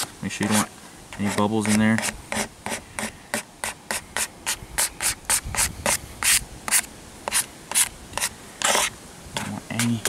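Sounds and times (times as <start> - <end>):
rubbing decal on window glass: 0.0 - 10.0.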